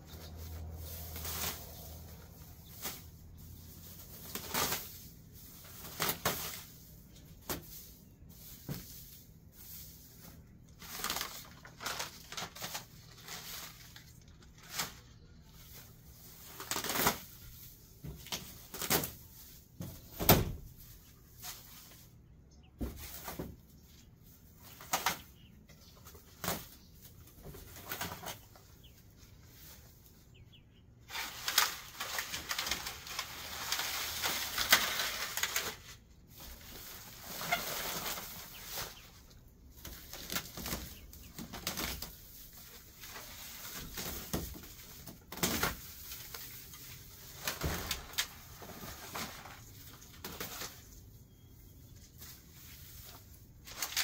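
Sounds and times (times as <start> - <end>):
dry grass rustling and crackling: 0.0 - 54.0.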